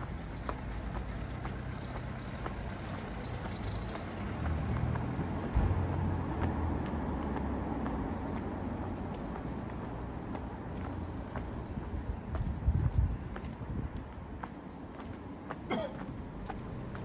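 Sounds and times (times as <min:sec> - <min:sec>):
faint footsteps on pavement: 0:00.0 - 0:17.0
vehicle engine rumble: 0:00.0 - 0:17.0.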